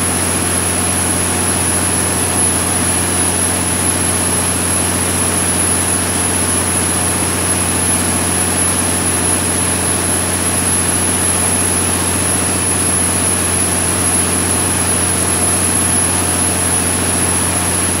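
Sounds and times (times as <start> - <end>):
diesel generator drone: 0.0 - 18.0.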